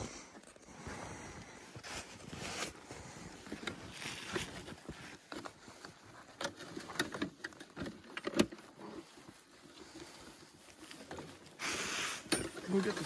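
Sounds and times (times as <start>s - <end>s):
clothing rustling: 1.1s - 13.0s.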